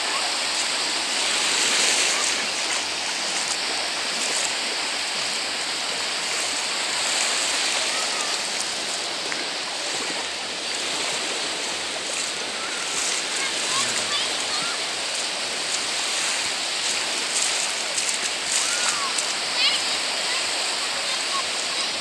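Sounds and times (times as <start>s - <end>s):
small waves breaking: 0.0s - 22.0s.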